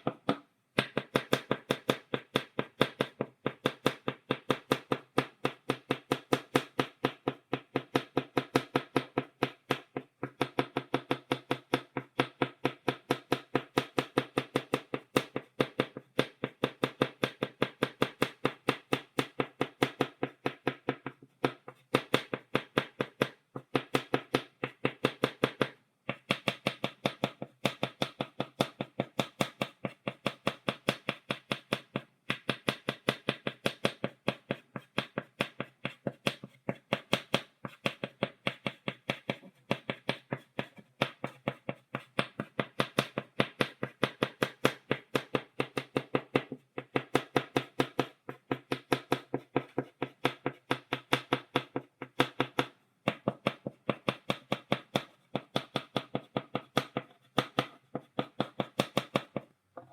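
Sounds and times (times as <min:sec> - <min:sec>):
chalk tapping on blackboard: 0:00.0 - 0:59.9.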